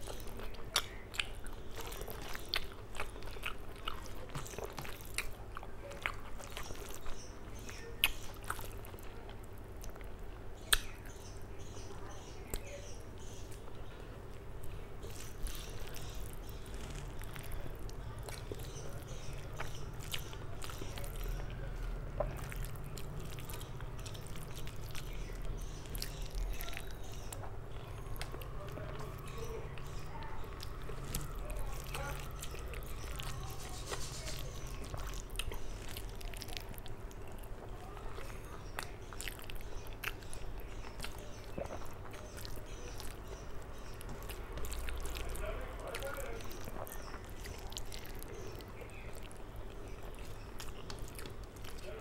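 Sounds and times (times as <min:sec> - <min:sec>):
moist chewing and lip-smacking: 0:00.0 - 0:52.0
steady low background hum: 0:00.0 - 0:52.0.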